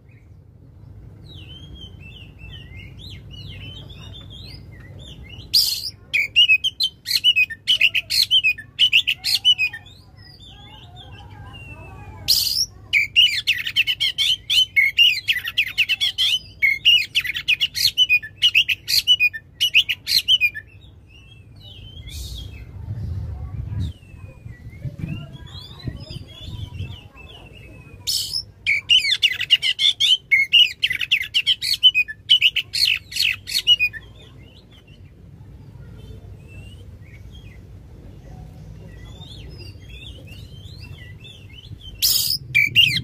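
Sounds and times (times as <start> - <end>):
magpie-robin singing: 0.0 - 22.7, 23.8 - 43.0.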